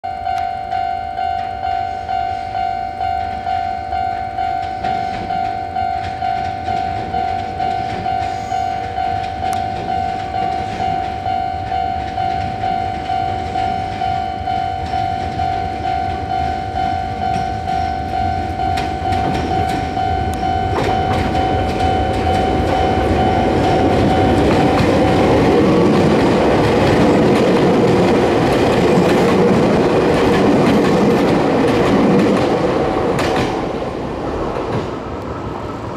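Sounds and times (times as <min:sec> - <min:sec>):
level-crossing warning bell: 0:00.0 - 0:34.2
electric train running: 0:01.2 - 0:35.9
train wheels clattering over rail joints: 0:04.6 - 0:35.0.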